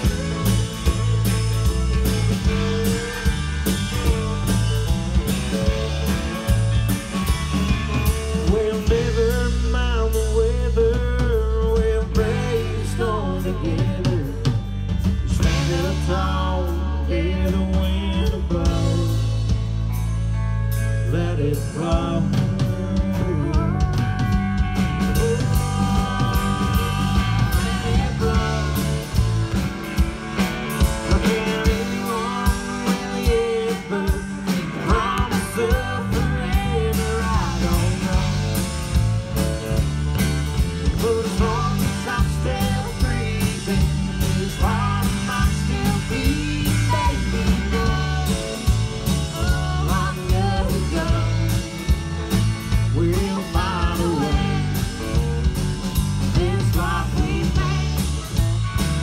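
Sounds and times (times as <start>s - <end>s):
person singing: 0.0s - 6.6s, 8.0s - 14.7s, 15.4s - 19.6s, 21.0s - 30.0s, 30.8s - 39.5s, 40.8s - 55.6s, 56.2s - 59.0s
drum kit beat: 0.0s - 20.3s, 21.8s - 59.0s
live rock band playing: 0.0s - 59.0s.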